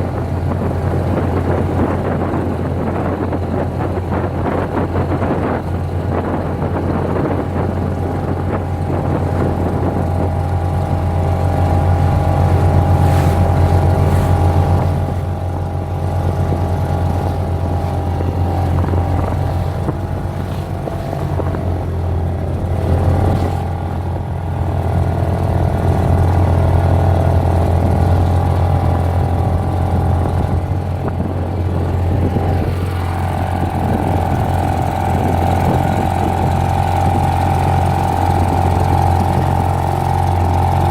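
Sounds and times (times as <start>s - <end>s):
outboard motor running: 0.0s - 40.9s.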